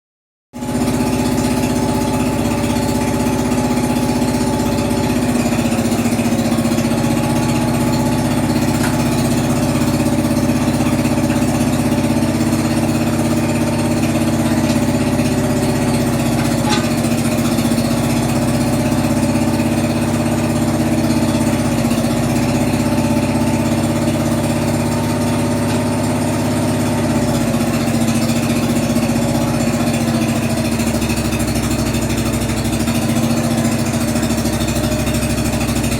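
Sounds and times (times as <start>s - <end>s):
small engine running: 0.6s - 35.9s.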